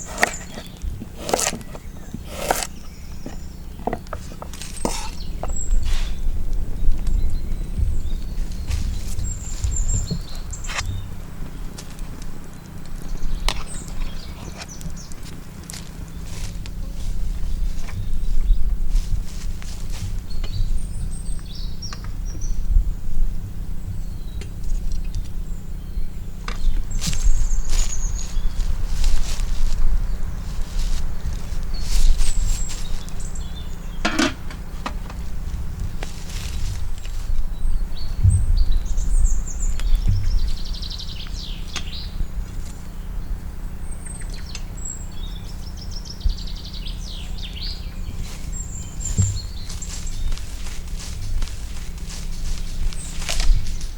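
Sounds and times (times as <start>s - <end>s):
songbird trilling: 0.0s - 19.4s, 24.0s - 35.4s, 37.3s - 53.9s
birds chirping: 0.0s - 53.9s
steady low rumble: 0.0s - 53.9s.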